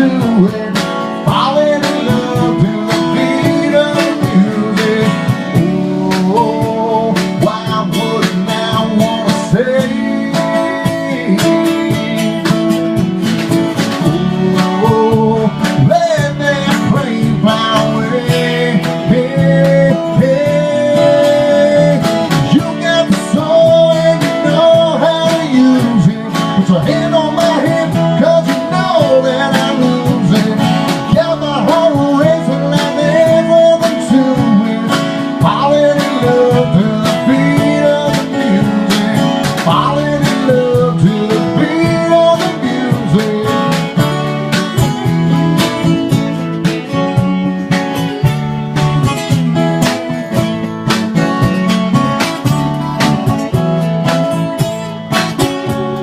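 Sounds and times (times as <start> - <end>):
person singing: 0.0 - 13.0, 13.8 - 50.1
guitar: 0.0 - 56.0.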